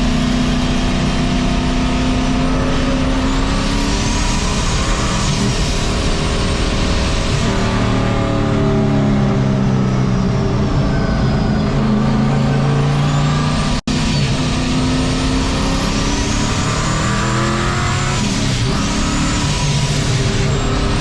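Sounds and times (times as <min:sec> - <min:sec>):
race truck engine revving: 0:00.0 - 0:21.0
turbo whine: 0:00.0 - 0:21.0.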